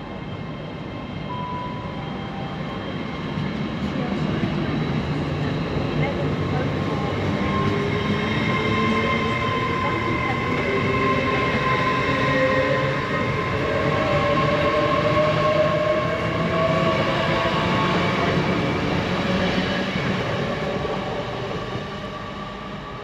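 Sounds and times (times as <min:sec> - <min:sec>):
high train whine: 0:00.0 - 0:23.0
train wheels rumbling on rail: 0:00.0 - 0:23.0.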